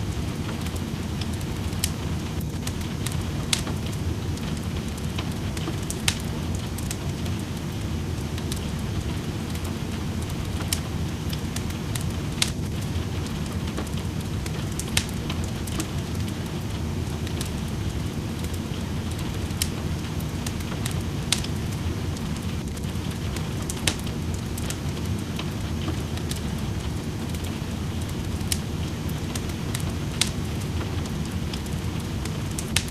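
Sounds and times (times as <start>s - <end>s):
rain: 0.0s - 32.9s
wood fire crackling: 0.0s - 32.9s.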